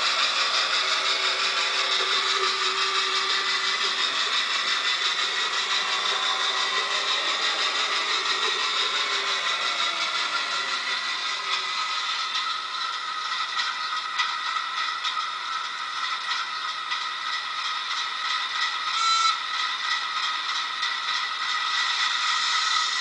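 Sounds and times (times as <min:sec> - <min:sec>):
tinny model engine sound: 0:00.0 - 0:23.0.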